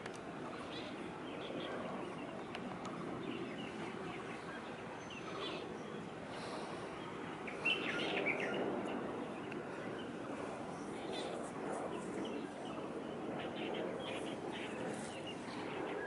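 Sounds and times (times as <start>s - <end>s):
city background hum: 0.0s - 16.0s
small birds chirping: 0.5s - 16.0s.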